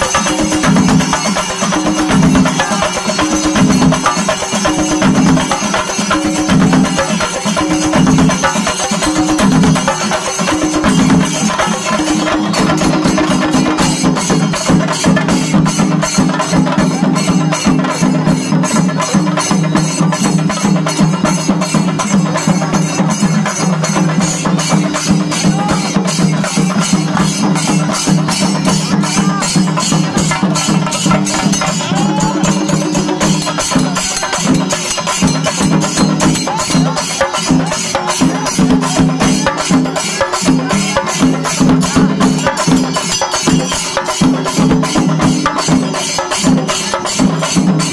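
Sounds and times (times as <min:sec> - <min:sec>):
drums beaten in driving rhythm: 0:00.0 - 0:47.9
hand cymbals: 0:00.0 - 0:47.9.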